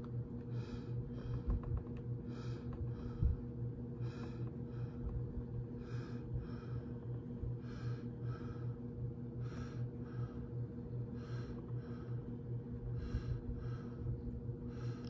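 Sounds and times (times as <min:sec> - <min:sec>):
close rhythmic breathing: 0:00.0 - 0:15.0
electrical hum: 0:00.0 - 0:15.0.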